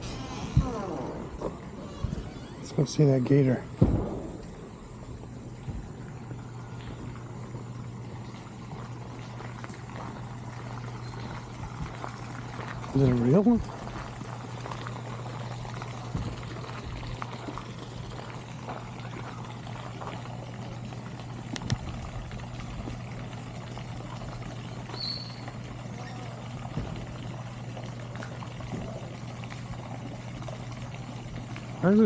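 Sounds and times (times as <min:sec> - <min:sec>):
low steady hum: 0:00.0 - 0:32.0
water pouring and trickling: 0:00.0 - 0:32.0.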